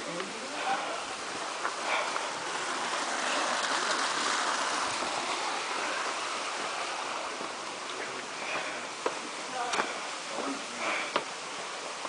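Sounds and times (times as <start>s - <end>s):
water rushing in a stream: 0.0s - 12.0s.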